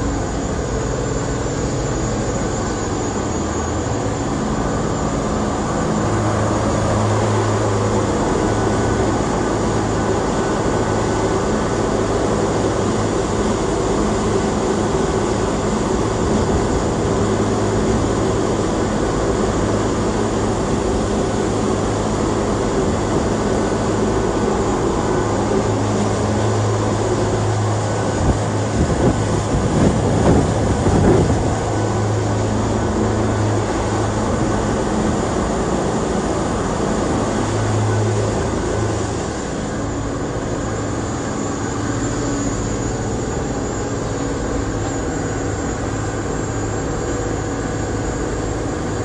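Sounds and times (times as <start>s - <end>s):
boat engines humming: 0.0s - 49.0s
churning wake: 0.0s - 49.0s.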